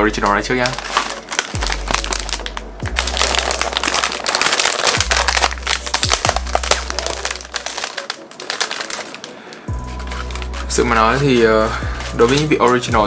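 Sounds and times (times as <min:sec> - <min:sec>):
plastic wrapper crinkling: 0:00.0 - 0:11.5.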